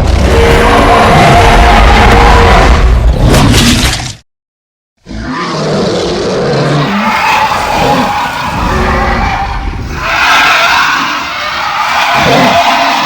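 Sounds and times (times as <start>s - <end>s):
dinosaur roar: 0.0s - 3.2s, 5.1s - 13.0s.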